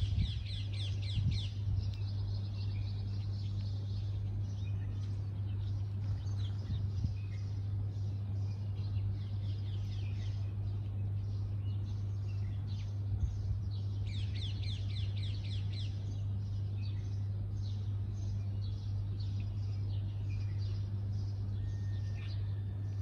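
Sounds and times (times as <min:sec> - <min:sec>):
sparrows chirping: 0:00.0 - 0:23.0
steady low hum: 0:00.0 - 0:23.0.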